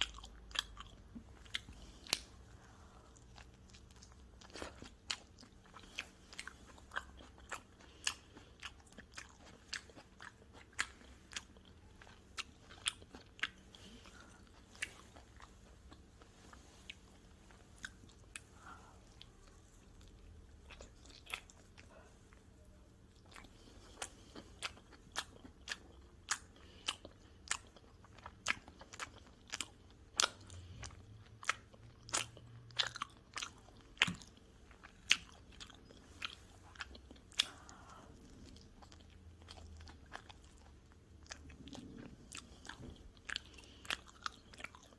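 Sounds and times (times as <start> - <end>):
chewing and crunching pizza: 0.0 - 44.9.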